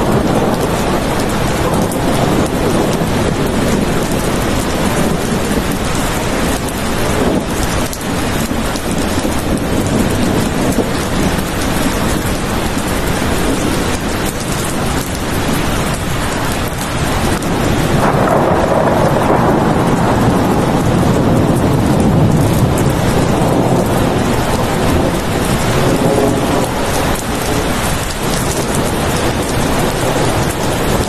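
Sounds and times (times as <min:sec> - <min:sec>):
heavy steady rain: 0:00.0 - 0:31.0
rumbling thunder: 0:00.0 - 0:31.0.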